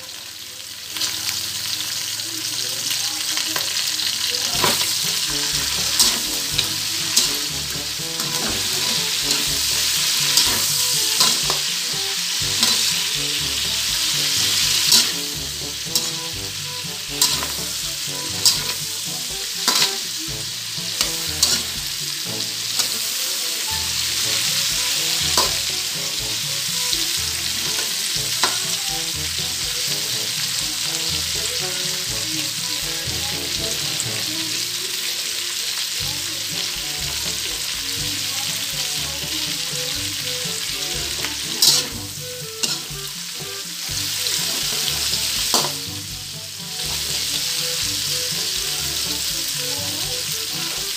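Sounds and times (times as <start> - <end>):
food sizzling in a wok: 0.0 - 50.9
metal spatula scraping pan: 4.4 - 34.3, 38.8 - 50.9.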